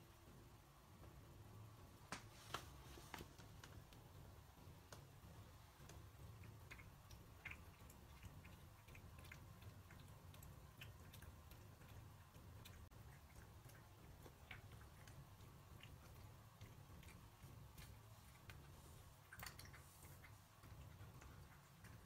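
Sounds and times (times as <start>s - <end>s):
low steady hum: 0.0s - 22.0s
cat chewing food: 3.0s - 22.0s.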